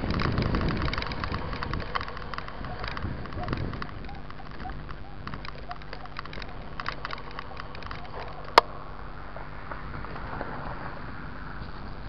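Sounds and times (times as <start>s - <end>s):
mountain bike rattling: 0.0s - 12.0s.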